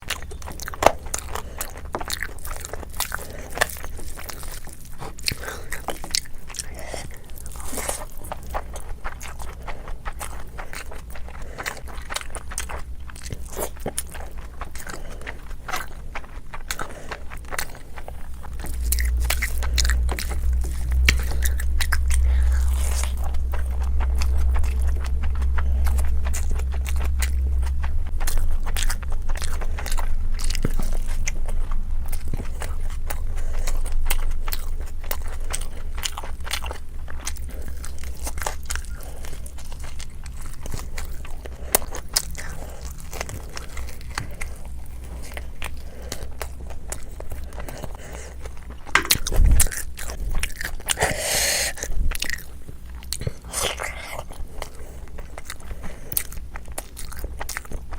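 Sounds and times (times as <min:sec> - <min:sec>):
low hum: 0:00.0 - 0:57.9
person crunching chicken: 0:00.0 - 0:57.9.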